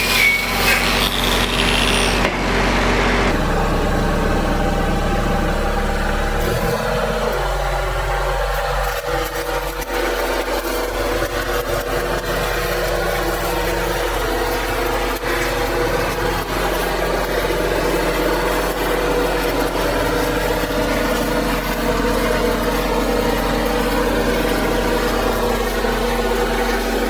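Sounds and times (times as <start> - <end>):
diesel engine idling: 2.4 - 27.0.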